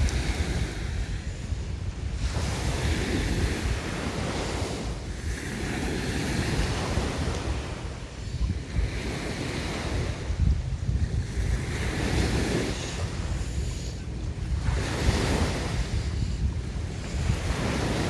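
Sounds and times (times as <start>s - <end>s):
sea waves washing onto shore: 0.0s - 18.0s
wind buffeting microphone: 0.0s - 18.0s.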